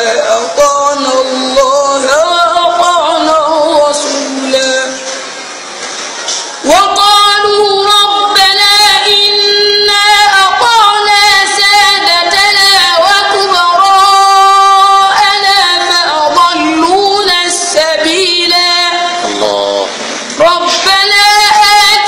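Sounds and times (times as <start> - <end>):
boy chanting melodically: 0.0 - 5.3, 6.6 - 22.0.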